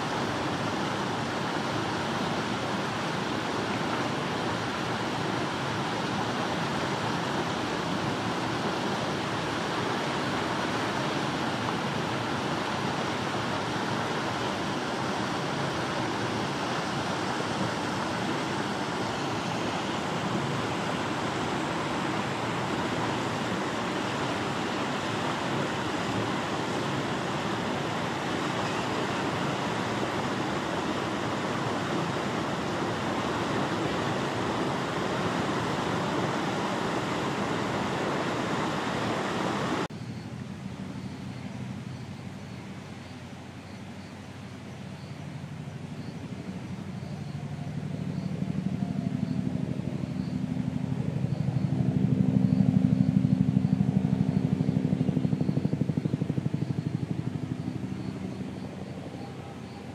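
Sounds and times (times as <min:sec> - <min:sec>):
steady rushing outdoor noise: 0:00.0 - 0:59.9.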